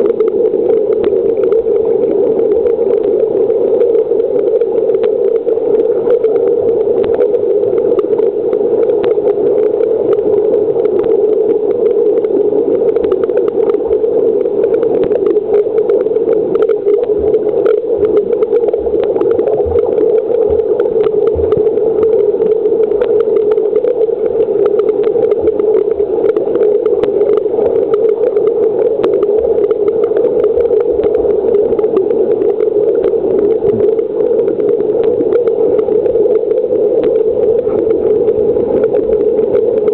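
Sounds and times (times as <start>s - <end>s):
faint clicks and ticks: 0.0s - 39.9s
underwater pool hum: 0.0s - 39.9s.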